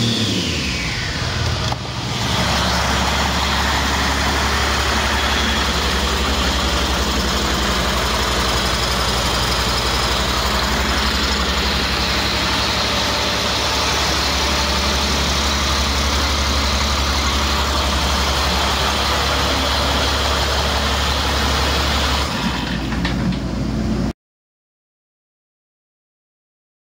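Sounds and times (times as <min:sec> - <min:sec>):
diesel engine running: 0:00.0 - 0:24.1.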